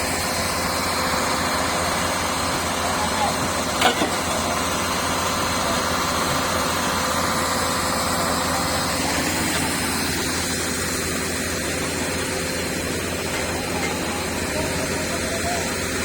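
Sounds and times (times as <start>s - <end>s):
welding equipment humming: 0.0s - 16.0s.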